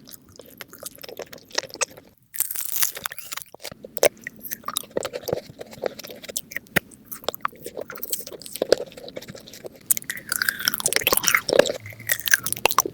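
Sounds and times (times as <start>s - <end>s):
food being bitten and chewed: 0.0s - 12.9s
wet mouth sounds: 0.0s - 12.9s.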